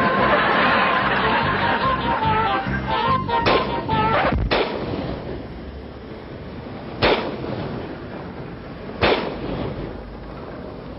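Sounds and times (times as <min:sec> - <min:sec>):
steady background hiss: 0:00.0 - 0:10.9.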